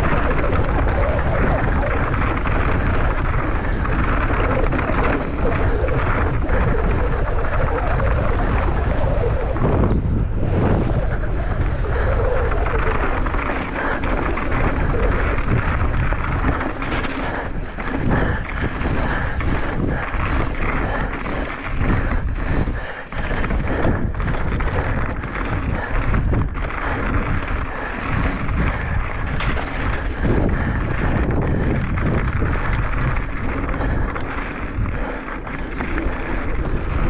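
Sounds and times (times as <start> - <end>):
bike rattling on rough ground: 0.0 - 37.0
wind buffeting microphone: 0.0 - 37.0.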